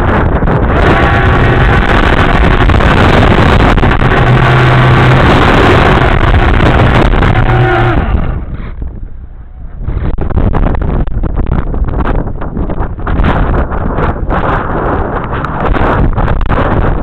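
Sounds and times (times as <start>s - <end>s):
engine running: 0.0s - 17.0s
rush of wind: 0.0s - 17.0s.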